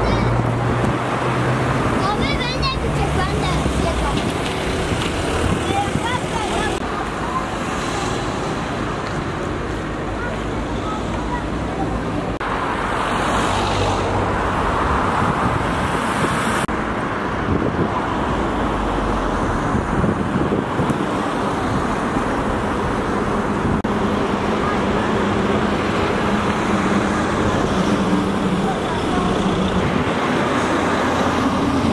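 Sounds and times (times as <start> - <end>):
passing cars on busy street: 0.0 - 31.9.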